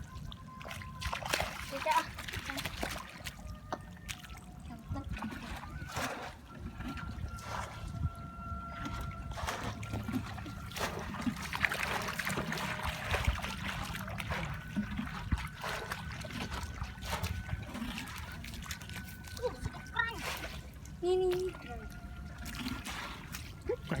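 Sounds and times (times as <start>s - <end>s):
shallow water sloshing and splashing: 0.0s - 24.0s.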